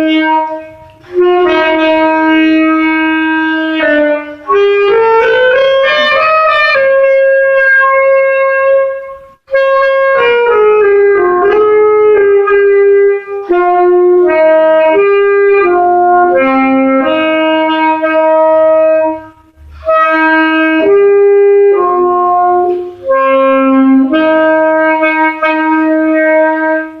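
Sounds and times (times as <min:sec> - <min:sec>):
saxophone playing slow melody: 0:00.0 - 0:27.0.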